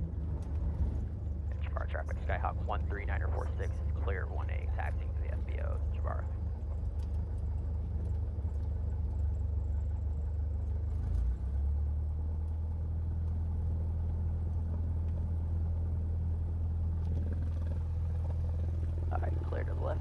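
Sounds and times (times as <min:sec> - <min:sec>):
propeller plane engine droning: 0:00.0 - 0:20.0.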